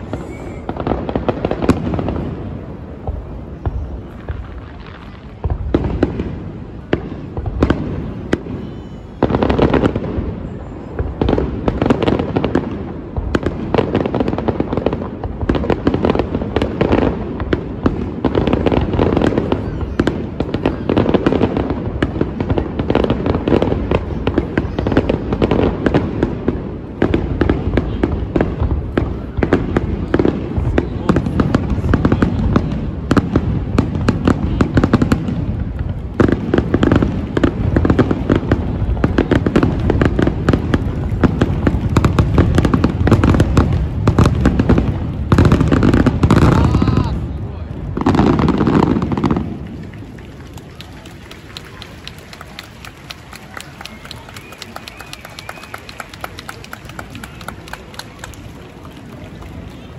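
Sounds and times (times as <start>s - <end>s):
fireworks crackle: 0.0s - 59.9s.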